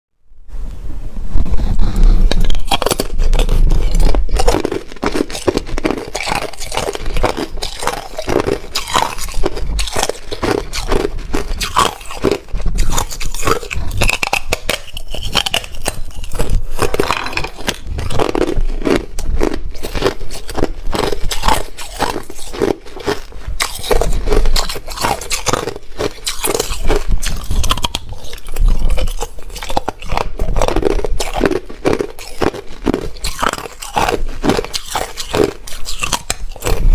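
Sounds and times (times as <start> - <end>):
ice being chewed: 1.8 - 36.9.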